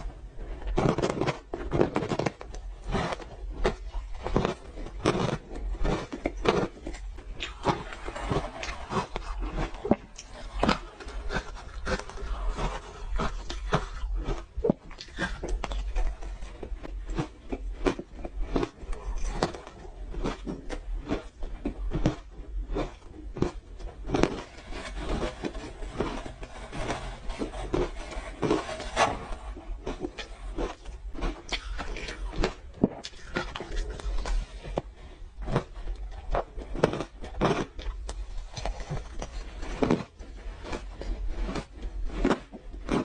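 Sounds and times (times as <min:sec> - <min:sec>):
crunching frozen ice: 0:00.0 - 0:43.0.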